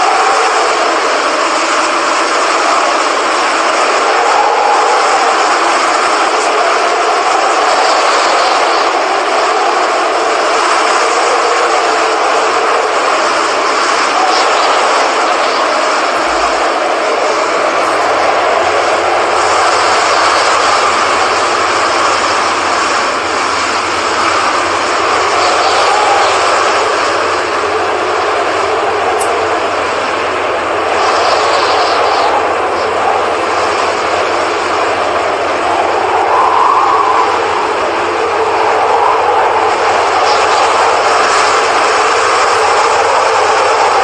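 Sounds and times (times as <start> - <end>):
strong gusting wind: 0.0 - 44.0.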